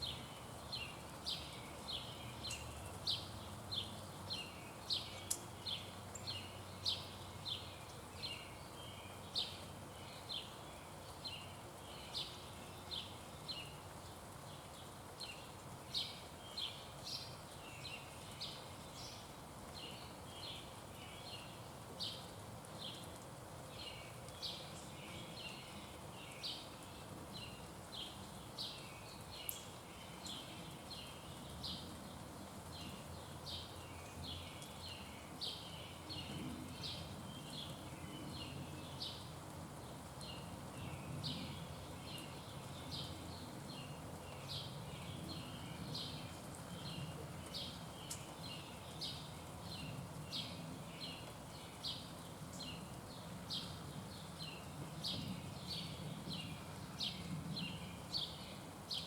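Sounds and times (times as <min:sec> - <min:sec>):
faint outdoor background noise: 0:00.0 - 0:59.0.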